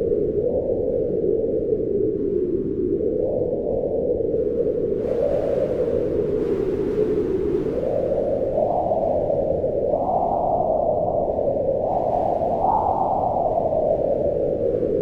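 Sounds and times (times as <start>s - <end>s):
wind blowing in gusts: 0.0s - 15.0s.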